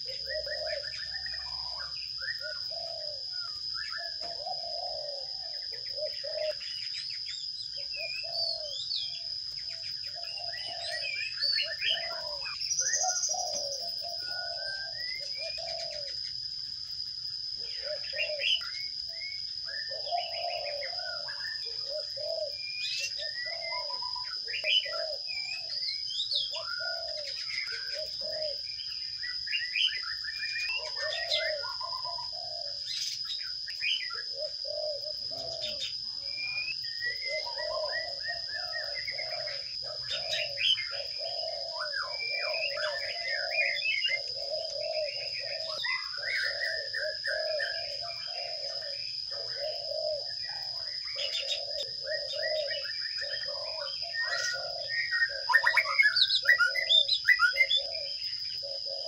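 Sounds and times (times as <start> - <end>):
birds chirping and twittering: 0.0 - 59.0
low repeated bird notes: 0.0 - 59.0.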